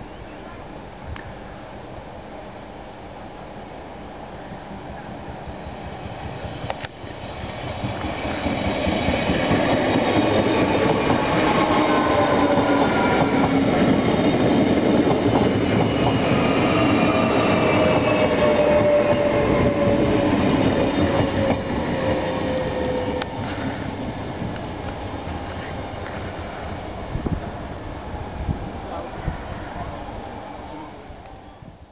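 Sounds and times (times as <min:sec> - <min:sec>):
train wheels rumbling on rails: 0:04.5 - 0:31.4.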